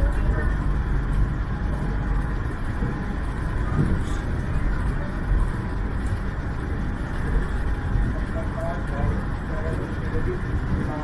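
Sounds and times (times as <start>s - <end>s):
monorail train rumbling: 0.0s - 11.0s.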